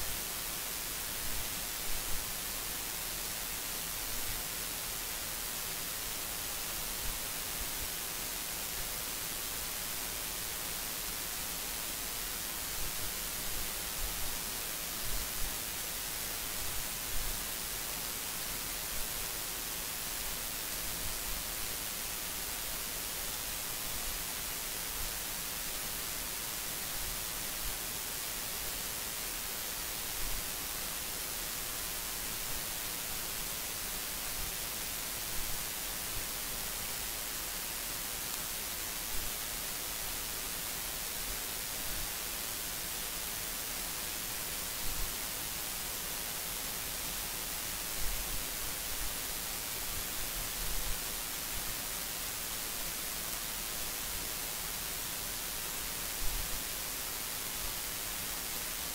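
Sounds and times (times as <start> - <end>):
electronic noise hiss: 0.0 - 58.9.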